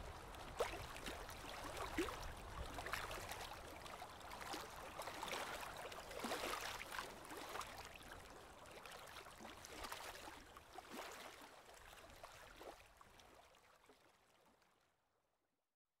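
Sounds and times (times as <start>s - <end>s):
lake waves lapping on shore: 0.0s - 12.9s.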